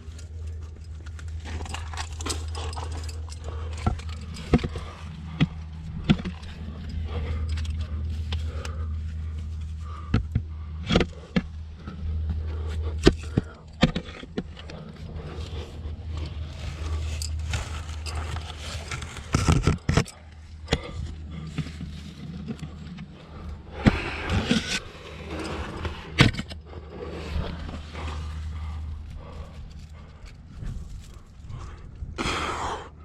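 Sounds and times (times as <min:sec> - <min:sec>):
clothing and gear scraping rock: 0:00.0 - 0:32.1
steady low rumble: 0:00.0 - 0:33.0.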